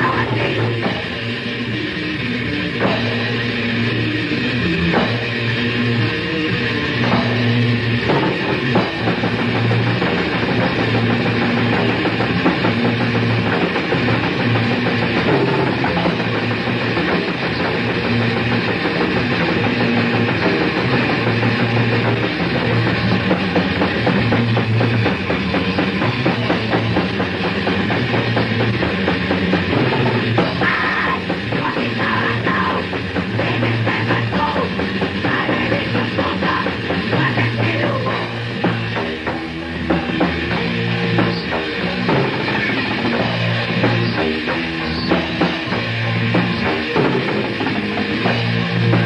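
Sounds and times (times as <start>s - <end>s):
death metal band playing: 0.0s - 49.0s.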